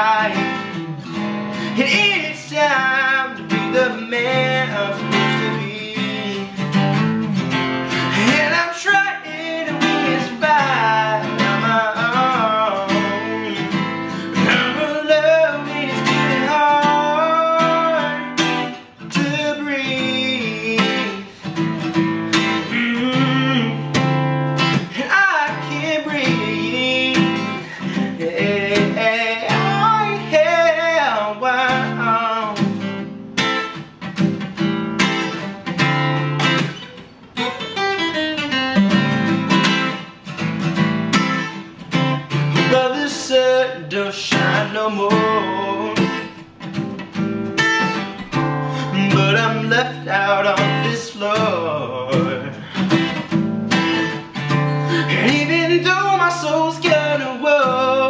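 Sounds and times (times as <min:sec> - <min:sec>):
man singing: 0:00.0 - 0:33.5, 0:41.2 - 0:46.4, 0:48.0 - 0:58.0
acoustic guitar strumming: 0:00.0 - 0:58.0.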